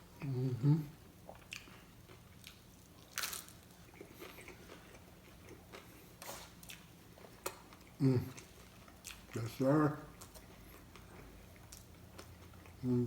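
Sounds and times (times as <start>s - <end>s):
person chewing food: 1.2s - 12.9s.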